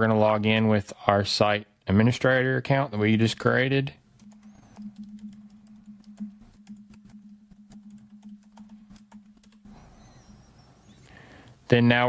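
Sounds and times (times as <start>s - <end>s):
faint low hum: 1.9s - 12.0s.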